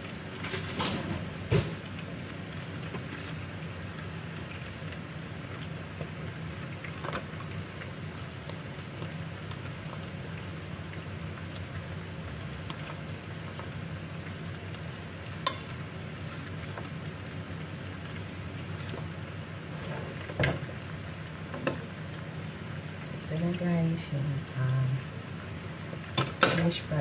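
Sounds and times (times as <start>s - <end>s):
chicken sizzling in pan: 0.0s - 27.0s.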